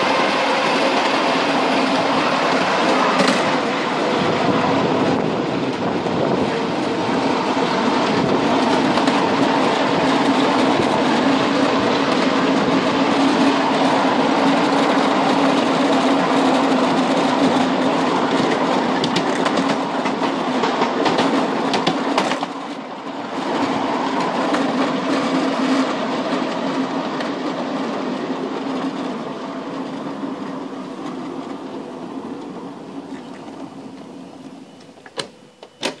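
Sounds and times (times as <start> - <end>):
wheel-on-rail rumble: 0.0 - 36.0
wheels clicking over rail joints: 0.0 - 36.0.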